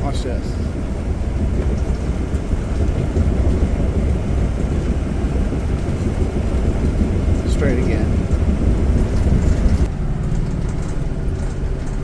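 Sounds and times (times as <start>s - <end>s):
engine rumble: 0.0s - 12.0s
road noise inside vehicle: 0.0s - 12.0s.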